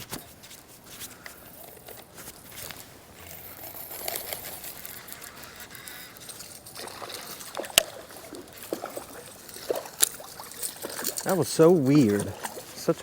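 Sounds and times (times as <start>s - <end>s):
water trickling and splashing: 0.3s - 13.0s.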